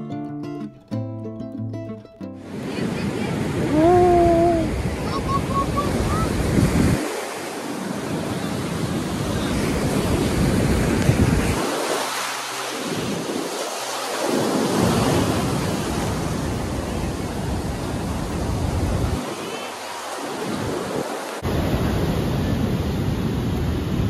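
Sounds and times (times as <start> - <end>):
surf breaking over sand: 2.4 - 24.0
wind buffeting microphone: 2.7 - 12.1, 12.8 - 24.0.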